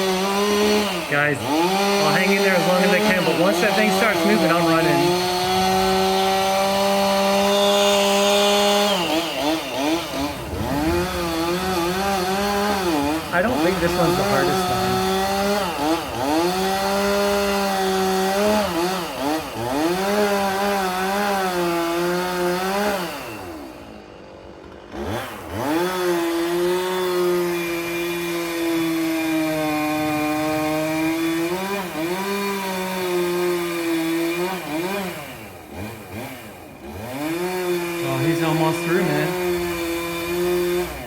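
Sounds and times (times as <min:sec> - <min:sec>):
chainsaw cutting through wood: 0:00.0 - 0:41.0.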